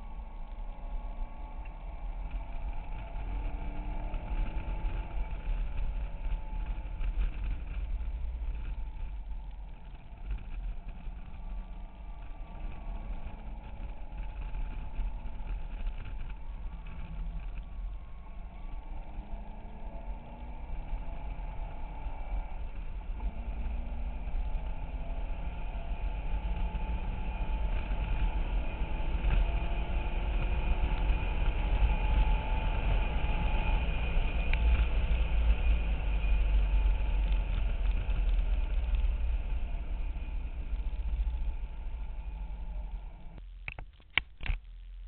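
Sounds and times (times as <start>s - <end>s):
car engine from inside cabin: 0.0s - 43.4s.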